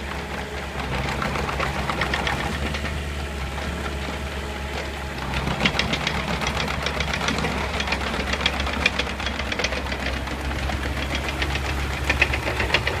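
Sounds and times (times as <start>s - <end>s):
excavator diesel engine running: 0.0s - 13.0s
fast uneven clatter of clicks: 0.6s - 3.0s, 4.8s - 13.0s.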